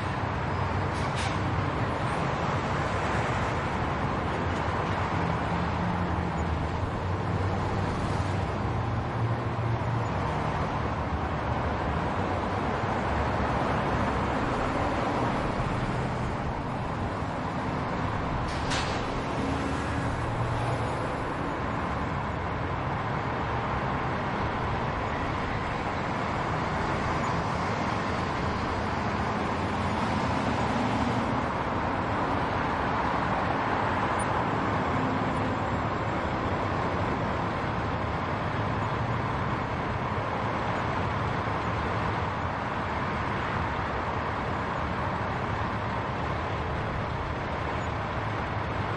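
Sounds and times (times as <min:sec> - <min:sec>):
road traffic noise: 0:00.0 - 0:48.9.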